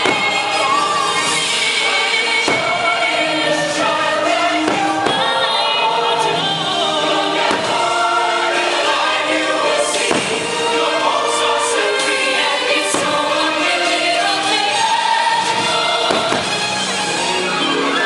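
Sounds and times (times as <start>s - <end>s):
choir singing over music: 0.0s - 18.0s.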